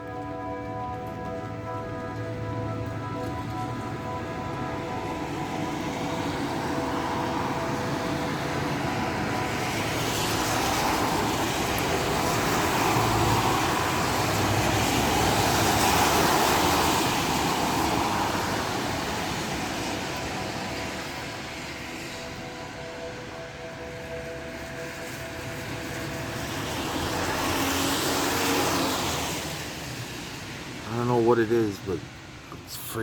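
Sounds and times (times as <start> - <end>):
passing vehicle rush: 0.0 - 33.0.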